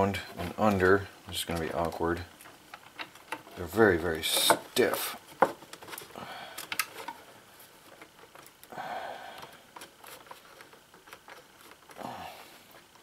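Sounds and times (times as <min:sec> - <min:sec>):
electrical wires clicking and rustling: 0:00.0 - 0:13.0.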